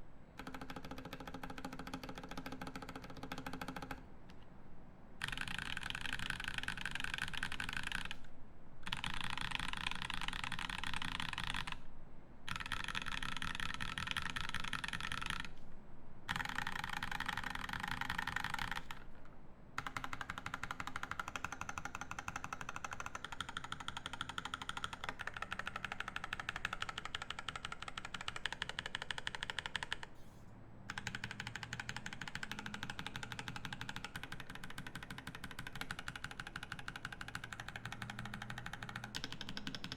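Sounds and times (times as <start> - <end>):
mechanical keyboard typing: 0.4 - 4.0, 5.2 - 8.2, 8.8 - 11.8, 12.5 - 15.5, 16.3 - 19.1, 19.8 - 30.1, 30.9 - 39.9.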